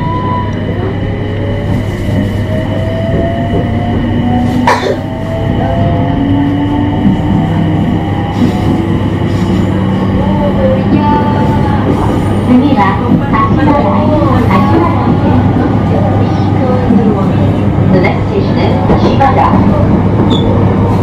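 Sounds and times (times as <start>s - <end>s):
train inverter and motors whining: 0.0s - 21.0s.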